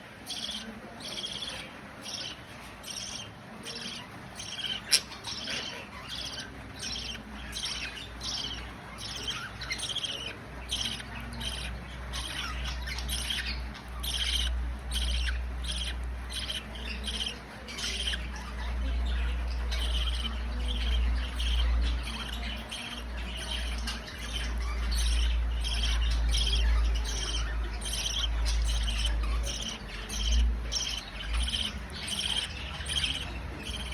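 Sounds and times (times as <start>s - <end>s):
bird chick squawking chirps: 0.2s - 33.9s.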